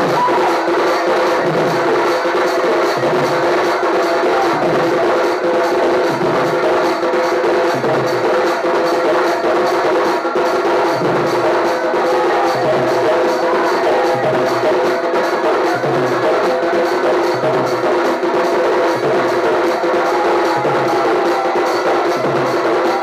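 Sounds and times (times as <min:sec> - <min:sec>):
barrel drums beaten fast: 0:00.0 - 0:23.0.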